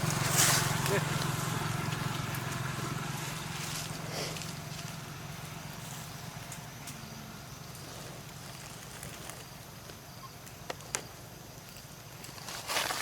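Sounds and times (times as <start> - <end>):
low engine hum: 0.0 - 12.1.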